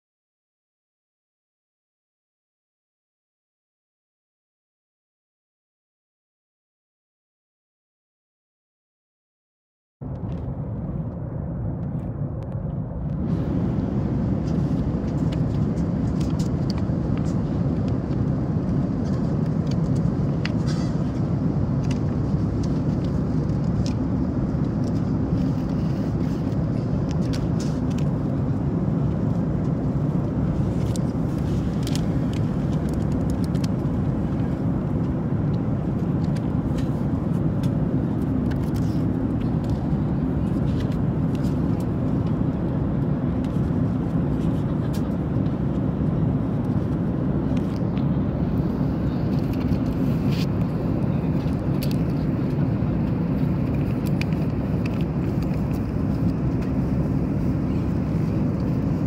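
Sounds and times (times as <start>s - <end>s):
airplane cabin engine rumble: 10.0s - 59.0s.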